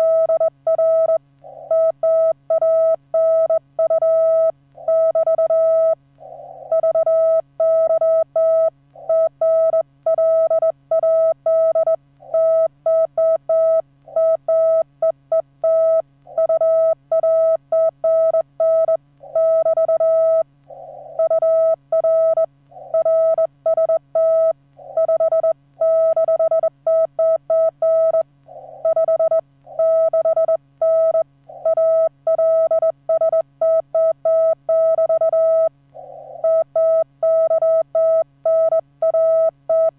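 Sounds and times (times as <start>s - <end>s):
faint steady low hum: 0.0s - 39.9s.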